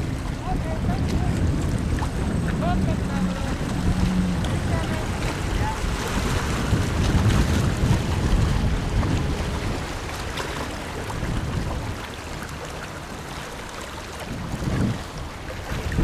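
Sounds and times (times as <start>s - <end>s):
distant boat engines: 0.0s - 16.0s
wind rumble on microphone: 0.0s - 16.0s.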